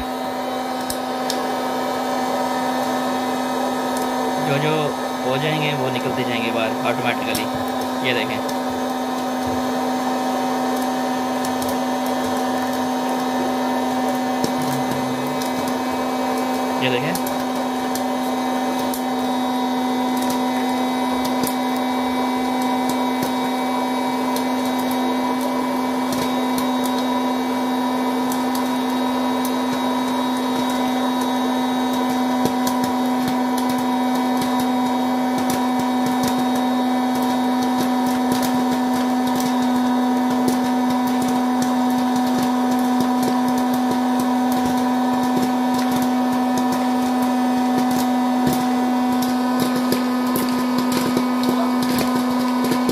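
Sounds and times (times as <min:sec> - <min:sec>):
popcorn machine humming: 0:00.0 - 0:52.9
popcorn kernels popping: 0:00.8 - 0:01.5, 0:05.4 - 0:52.9.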